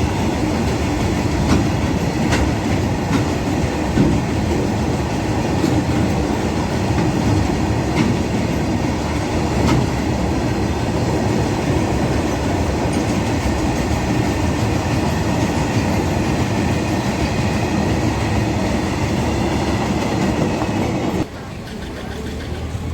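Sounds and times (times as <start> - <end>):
train wheels rumbling on rails: 0.0 - 22.9.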